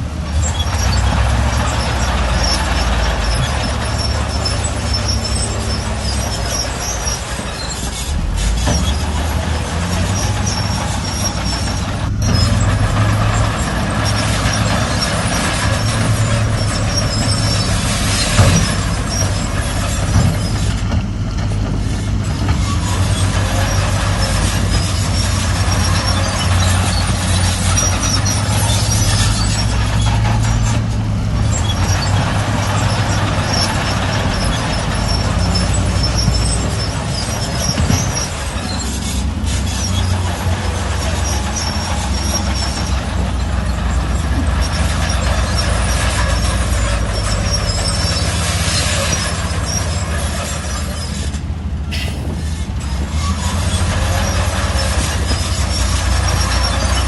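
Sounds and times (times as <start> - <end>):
bulldozer diesel engine running: 0.0 - 57.0
steel tracks clanking and squealing: 0.0 - 57.0.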